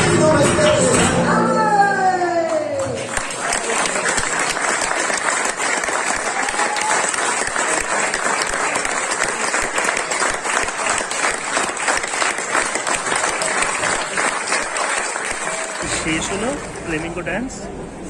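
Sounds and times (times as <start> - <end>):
audience applauding: 2.2 - 17.5.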